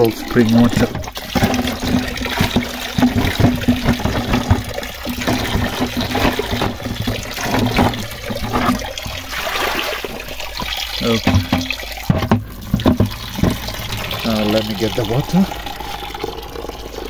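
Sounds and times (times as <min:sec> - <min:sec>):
water splashing into rocky pool: 0:00.0 - 0:16.0
thin stream of water falling: 0:00.0 - 0:17.0.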